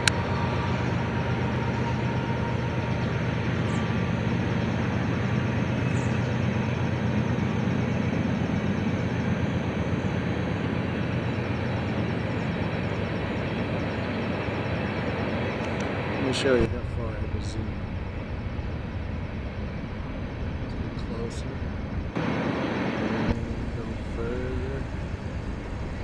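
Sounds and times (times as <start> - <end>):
large engine rumbling: 0.0 - 26.0.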